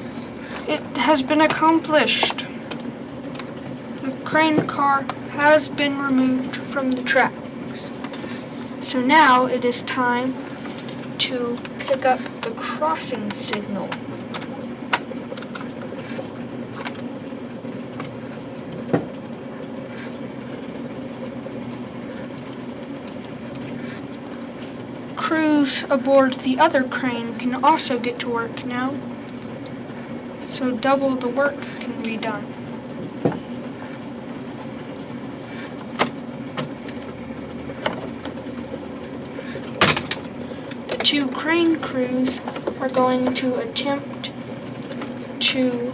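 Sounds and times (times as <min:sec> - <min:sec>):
model train electric hum: 0:00.0 - 0:45.9.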